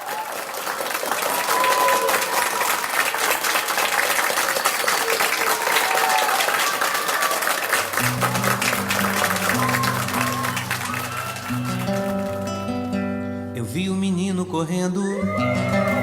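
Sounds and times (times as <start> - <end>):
audience applauding: 0.0 - 13.0, 15.3 - 16.0.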